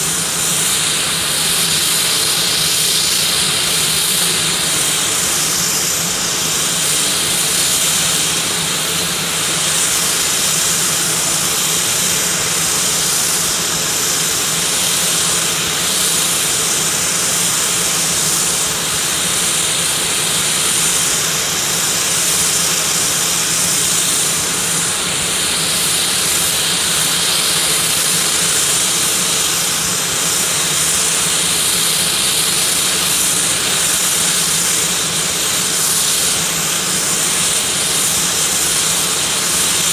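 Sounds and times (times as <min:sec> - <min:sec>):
turboprop engines idling: 0:00.0 - 0:39.9.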